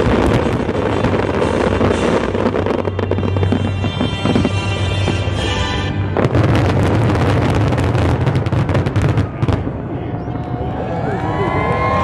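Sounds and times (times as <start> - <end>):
fireworks banging and popping: 0.0 - 9.9.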